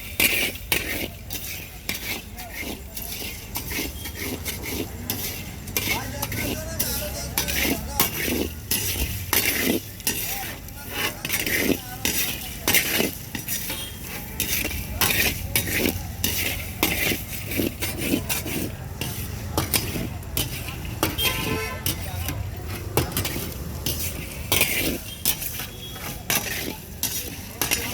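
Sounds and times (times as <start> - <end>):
metal ladle scraping a pan: 0.0 - 27.9.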